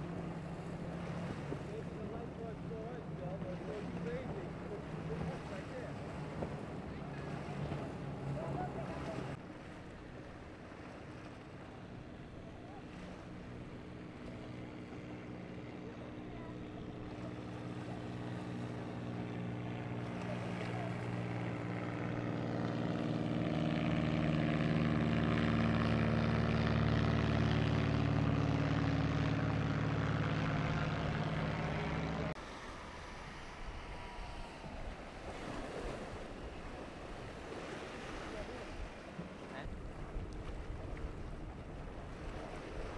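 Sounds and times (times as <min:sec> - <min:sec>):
motorboat engines humming: 0:00.0 - 0:42.9
surf: 0:00.0 - 0:42.9
wind: 0:00.0 - 0:42.9.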